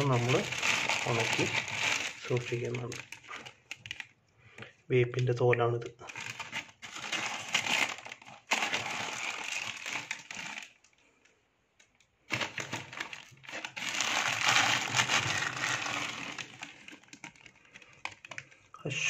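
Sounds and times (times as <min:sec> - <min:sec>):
plastic bags crinkling: 0:00.0 - 0:04.2, 0:06.0 - 0:11.0, 0:12.3 - 0:18.7.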